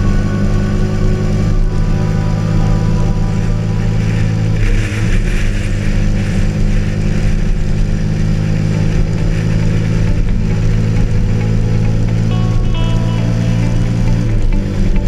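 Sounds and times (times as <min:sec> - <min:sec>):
motorcycle engine cruising: 0:00.0 - 0:15.0
wind noise: 0:00.0 - 0:15.0.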